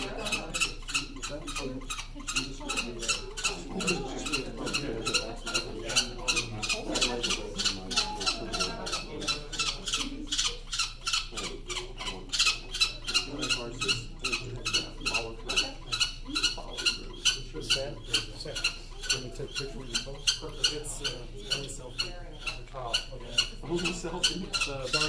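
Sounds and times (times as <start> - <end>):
falcon chick squawking: 0.0 - 25.0
people murmuring: 0.0 - 25.0.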